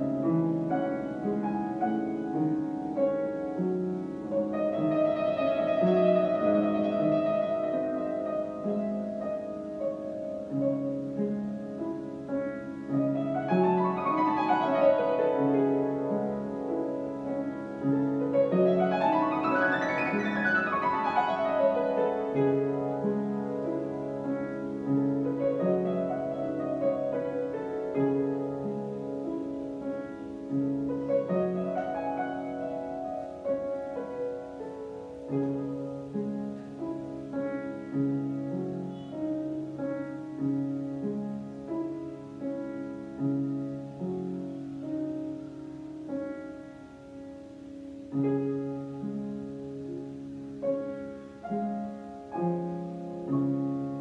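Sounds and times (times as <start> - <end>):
classical upright piano: 0.0 - 54.0.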